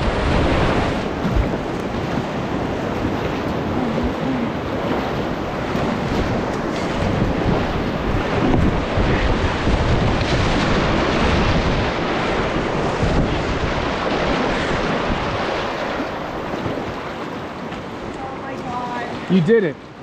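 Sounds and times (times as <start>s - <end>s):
whitewater rushing and splashing: 0.0s - 20.0s
wind buffeting microphone: 0.0s - 20.0s.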